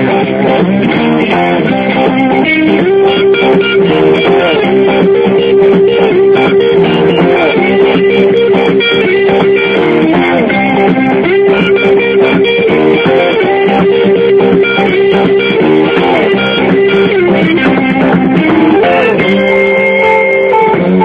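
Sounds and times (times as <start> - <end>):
electric guitar music with bass: 0.0 - 21.0.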